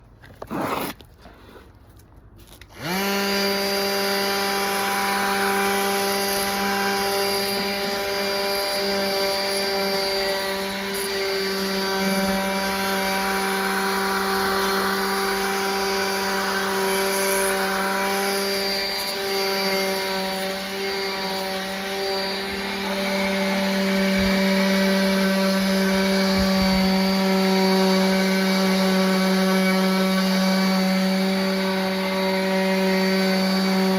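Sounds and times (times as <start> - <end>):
electric sander motor: 2.7 - 33.9.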